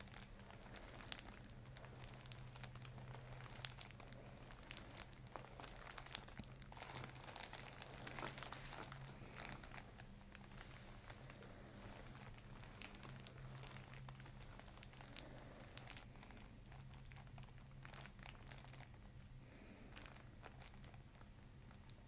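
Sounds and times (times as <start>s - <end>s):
low steady hum: 0.0s - 22.0s
paper crinkling and rustling: 0.0s - 22.0s.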